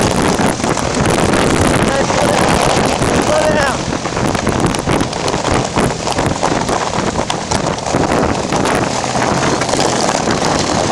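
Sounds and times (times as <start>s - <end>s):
sled scraping over snow and ice: 0.0s - 10.9s
wind buffeting microphone: 0.0s - 10.9s.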